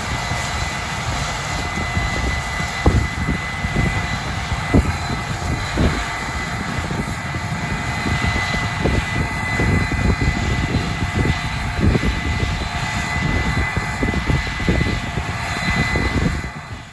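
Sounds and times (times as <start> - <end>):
combine harvester droning: 0.0 - 16.9
high whine: 0.0 - 16.9.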